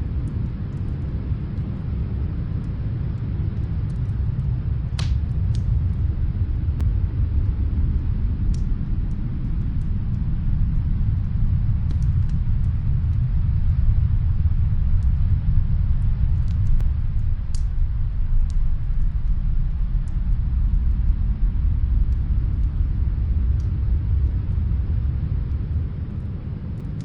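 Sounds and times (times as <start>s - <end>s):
snowstorm wind rumbling: 0.0s - 27.0s
wood fire crackles: 0.0s - 27.0s.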